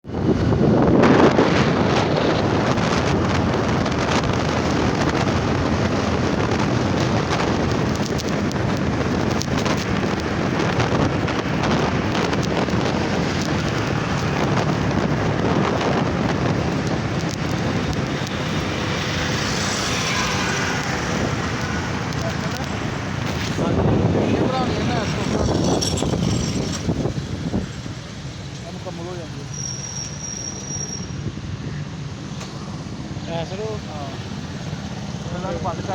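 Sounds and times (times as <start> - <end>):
traffic and engine noise: 0.0 - 35.9
wind on microphone: 0.0 - 35.9.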